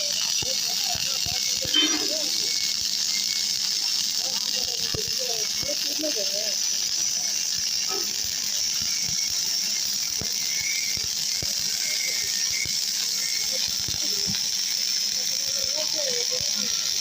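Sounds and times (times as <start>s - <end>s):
welding arc crackling: 0.0s - 17.0s
welding hiss: 0.0s - 17.0s.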